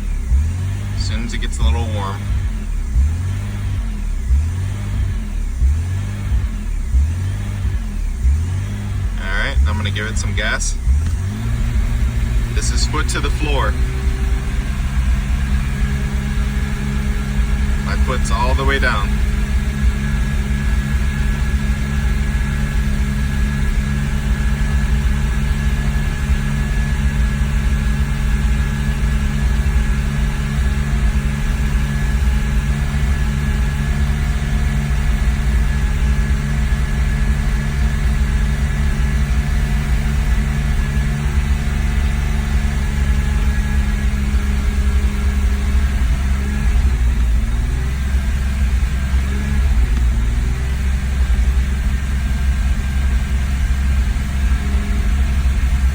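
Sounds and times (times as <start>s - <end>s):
car engine at full throttle: 0.0s - 55.9s.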